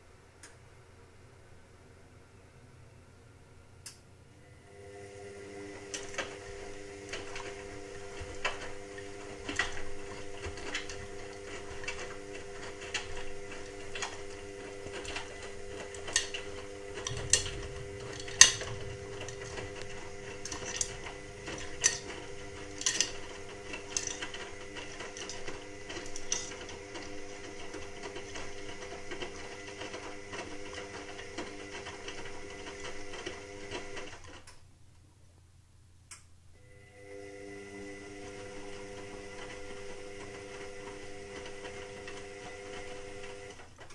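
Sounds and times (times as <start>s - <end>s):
washing machine motor hum: 0.0s - 34.5s, 36.6s - 43.9s.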